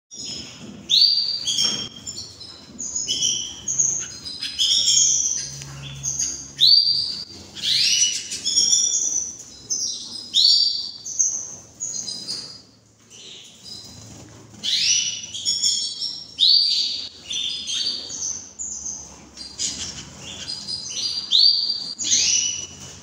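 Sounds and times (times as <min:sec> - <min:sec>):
canary singing: 0:00.1 - 0:23.0.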